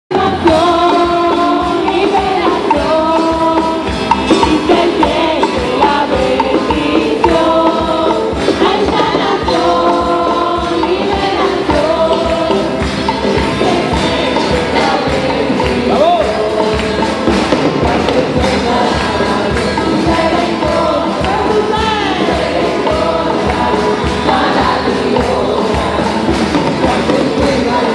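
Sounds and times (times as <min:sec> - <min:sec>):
group singing: 0:00.1 - 0:27.9
steady beat: 0:00.3 - 0:27.9.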